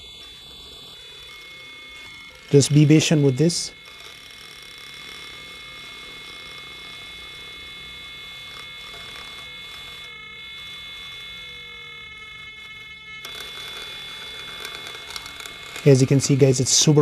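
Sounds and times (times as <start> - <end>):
high-pitched electrical whine: 0.0 - 17.0.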